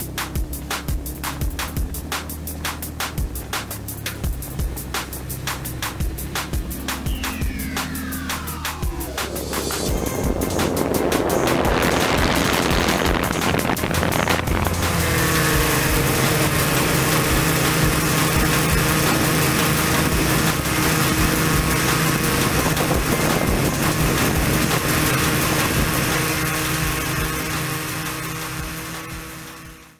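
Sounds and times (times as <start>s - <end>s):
drone propellers whirring: 0.0s - 29.9s.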